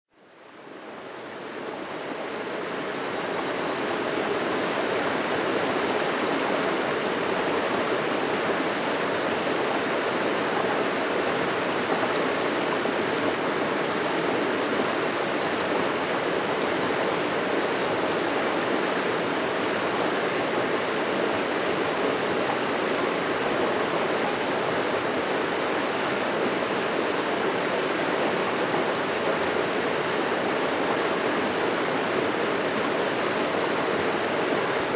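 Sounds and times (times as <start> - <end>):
water rushing over boulders: 1.0 - 34.9.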